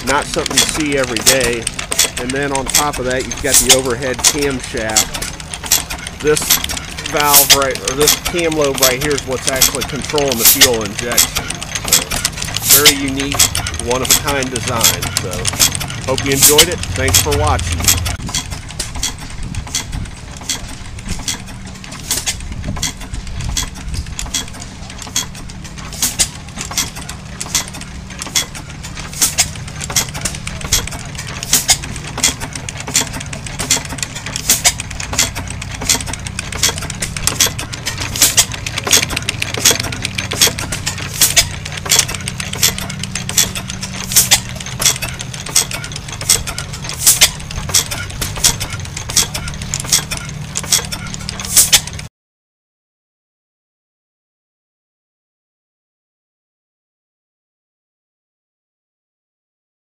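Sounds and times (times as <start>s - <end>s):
engine low drone: 0.0s - 52.1s
sharp mechanical clicks: 0.0s - 52.1s.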